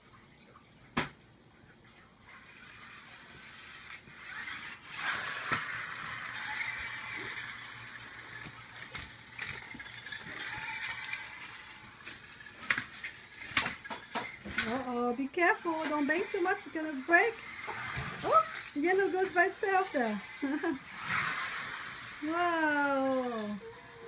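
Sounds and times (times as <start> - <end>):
toy car whirring on tile: 2.3 - 24.0.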